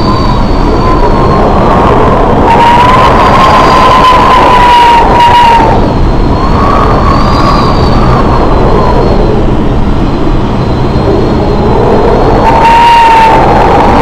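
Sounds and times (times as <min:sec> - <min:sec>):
engine with high whine: 0:00.0 - 0:14.0.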